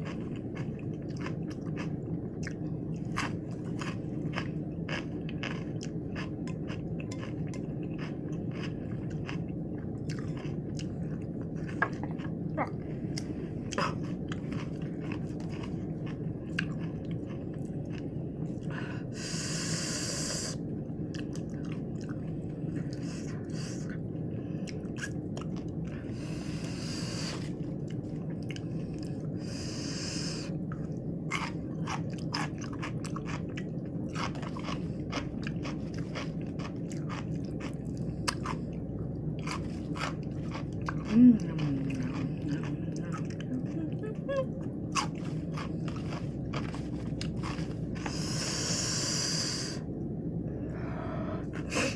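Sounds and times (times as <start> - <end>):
crunchy chewing: 0.0 - 24.0, 24.6 - 44.0, 44.6 - 49.8
steady low hum: 0.0 - 51.9.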